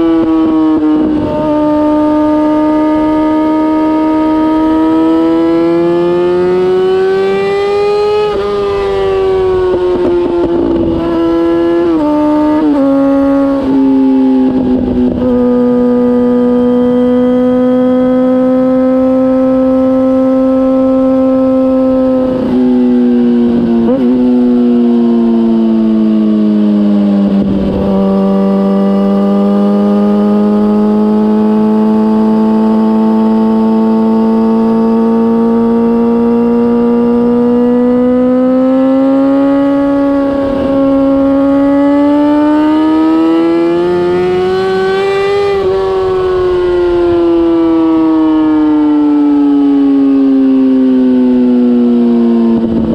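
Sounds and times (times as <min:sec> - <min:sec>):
motorcycle engine running hard: 0:00.0 - 0:52.9.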